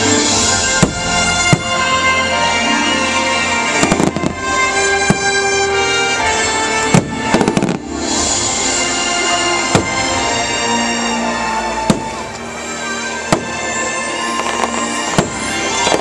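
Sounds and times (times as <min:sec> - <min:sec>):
fireworks bangs: 0:00.0 - 0:08.8, 0:09.5 - 0:10.6, 0:11.6 - 0:16.0
show music: 0:00.0 - 0:16.0.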